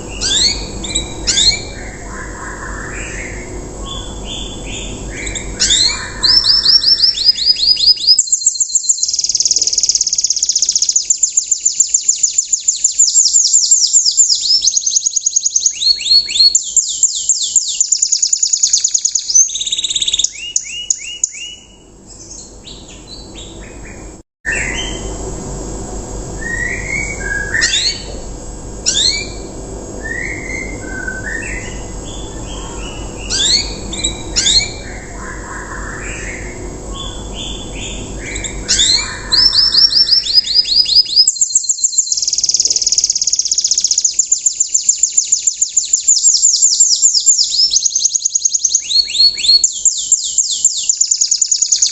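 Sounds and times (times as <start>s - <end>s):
canary singing trills: 0.0s - 25.2s, 26.4s - 51.9s
canary rising chirps: 0.0s - 25.7s, 26.3s - 51.9s.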